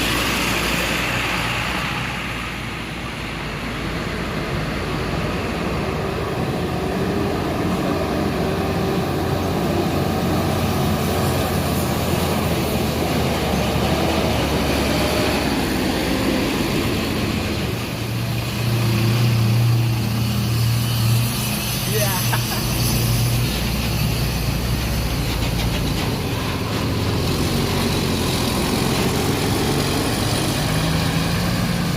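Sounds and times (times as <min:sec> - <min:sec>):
diesel bus engine drone: 0:00.0 - 0:31.9.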